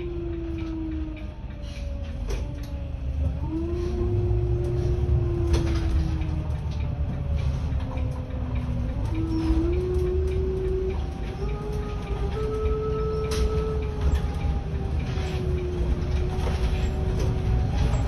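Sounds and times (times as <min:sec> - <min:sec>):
bus drive whine: 0:00.0 - 0:18.0
low engine rumble: 0:00.0 - 0:18.0.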